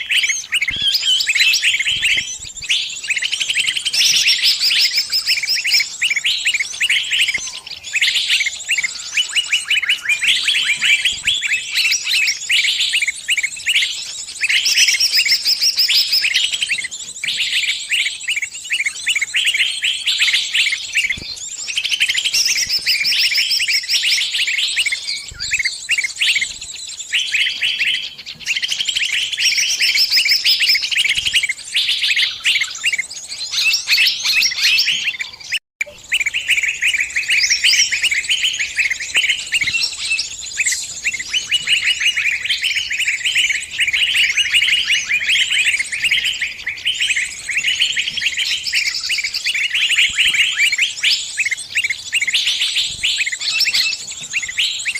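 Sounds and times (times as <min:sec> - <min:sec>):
small bird distress chirping: 0:00.0 - 0:54.9.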